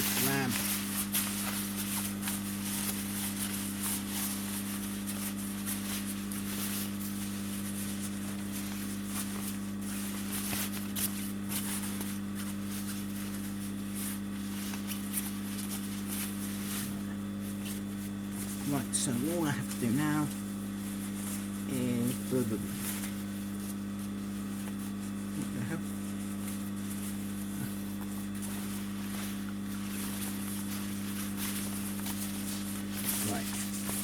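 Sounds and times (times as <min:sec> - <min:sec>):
electrical hum: 0:00.0 - 0:34.0
fabric and thread rustling: 0:00.0 - 0:34.0.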